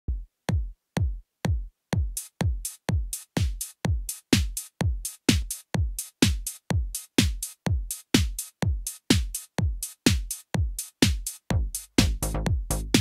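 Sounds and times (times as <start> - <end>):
electronic kick drum: 0.1 - 13.0
offbeat hi-hats: 0.1 - 13.0.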